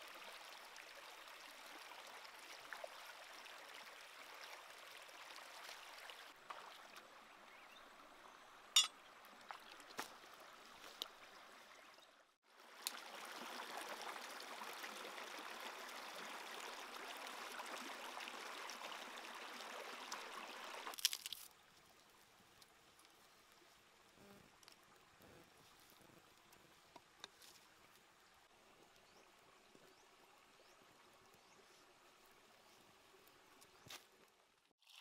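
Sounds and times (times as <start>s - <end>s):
stream running over rocks: 0.0s - 35.0s.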